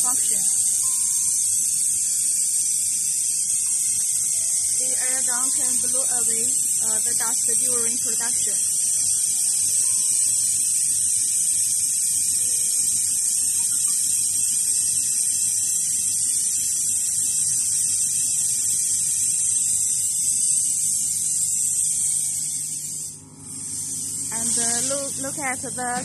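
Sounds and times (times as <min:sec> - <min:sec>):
compressed air hissing: 0:00.0 - 0:26.0
fans and pumps humming: 0:00.0 - 0:26.0.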